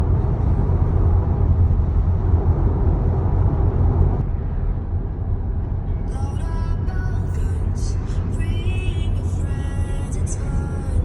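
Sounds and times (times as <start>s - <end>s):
car driving on road rumble: 0.0s - 11.0s.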